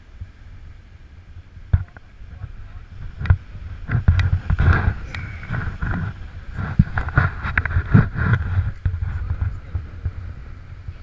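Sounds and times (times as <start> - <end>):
wind buffeting microphone: 0.0 - 11.0
surf breaking on rocks: 1.6 - 11.0.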